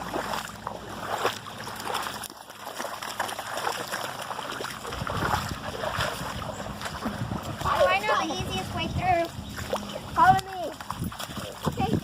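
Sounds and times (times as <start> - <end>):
water splashing in shallow water: 0.0 - 12.0.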